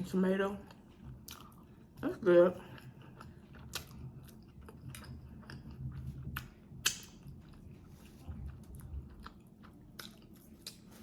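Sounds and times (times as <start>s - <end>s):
chewing with wet mouth clicks: 0.6s - 2.0s, 2.6s - 11.0s.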